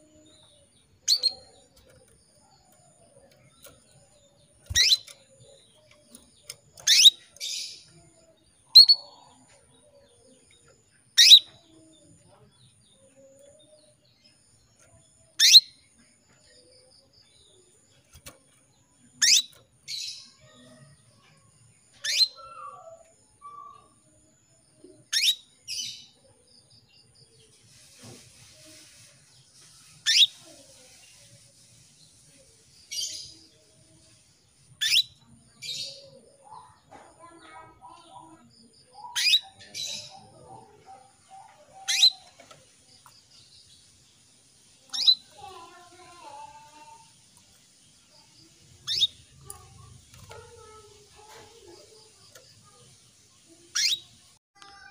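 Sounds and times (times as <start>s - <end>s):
soft bird chatter: 0.0s - 54.9s.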